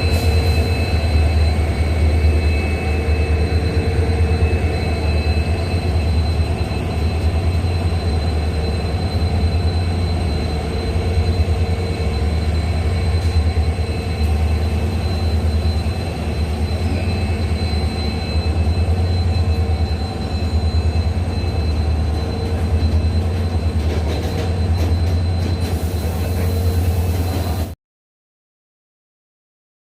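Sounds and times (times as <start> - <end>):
freight train rumbling past: 0.0 - 27.8
high whine: 0.0 - 27.8.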